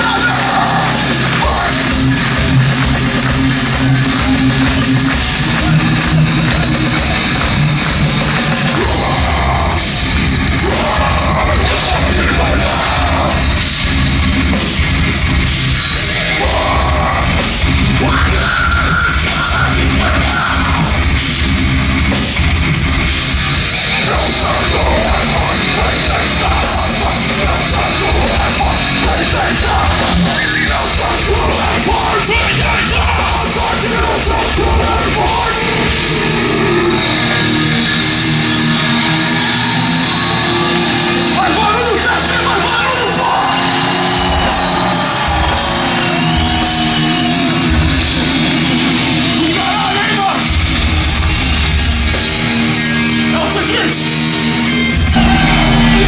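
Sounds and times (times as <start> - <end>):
heavy metal band playing: 0.0 - 56.0.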